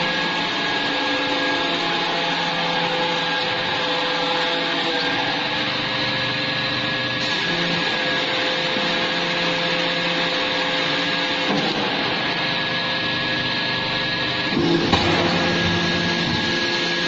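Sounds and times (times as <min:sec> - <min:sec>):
hydraulic pump humming and whining: 0:00.0 - 0:17.0.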